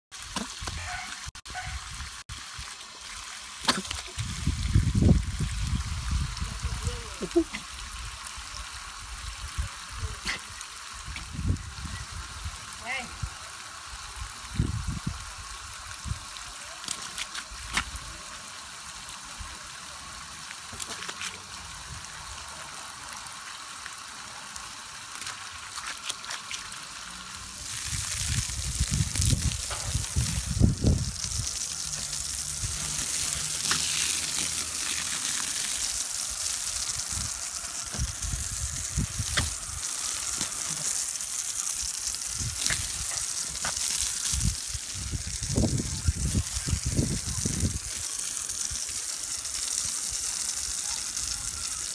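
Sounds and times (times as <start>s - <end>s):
garden hose spraying water: 0.1s - 51.9s.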